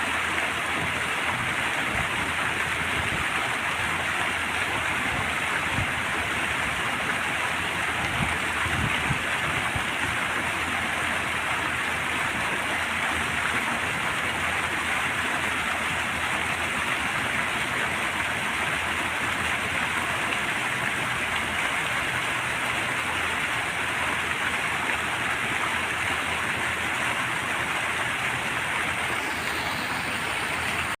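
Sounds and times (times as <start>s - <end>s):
fountain water splashing: 0.0s - 31.0s.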